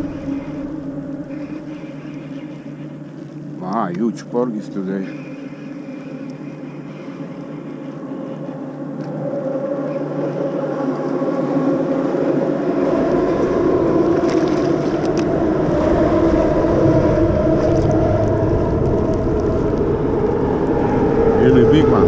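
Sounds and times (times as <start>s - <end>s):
boat motor droning: 0.0s - 22.0s.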